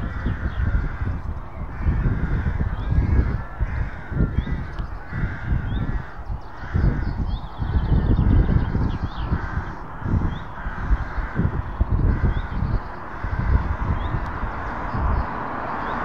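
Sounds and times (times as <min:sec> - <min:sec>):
bird cawing: 0:00.0 - 0:16.0
low rumble of road traffic: 0:00.0 - 0:16.0.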